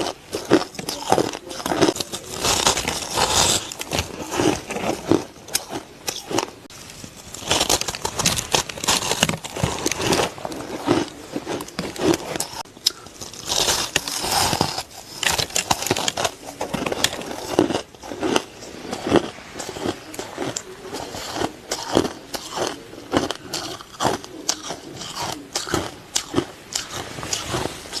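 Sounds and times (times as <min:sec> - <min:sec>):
ice crunching between teeth: 0:00.0 - 0:28.0.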